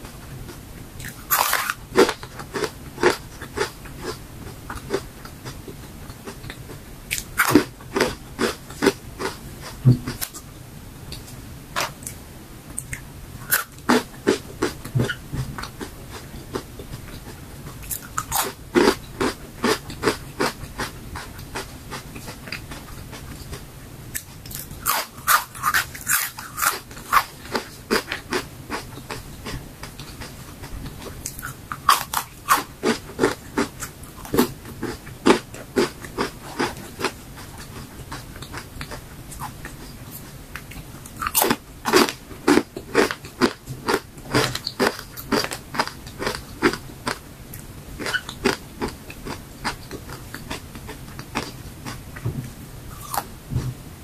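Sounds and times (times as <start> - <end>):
crunching and chewing chips: 0.5 - 10.4, 12.8 - 52.3, 52.9 - 53.3.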